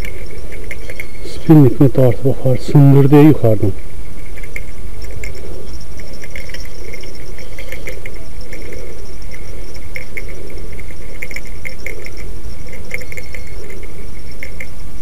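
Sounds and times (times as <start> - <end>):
frogs croaking in chorus: 0.0 - 15.0
steady low rumble: 0.0 - 15.0.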